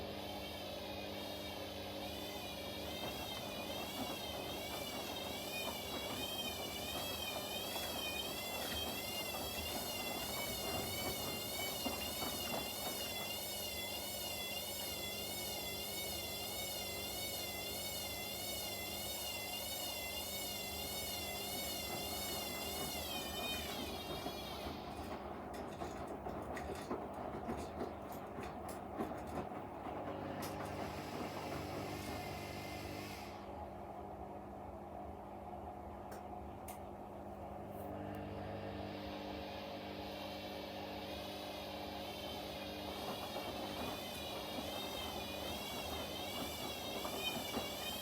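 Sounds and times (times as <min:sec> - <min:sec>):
washing machine motor whine: 0:00.0 - 0:48.0.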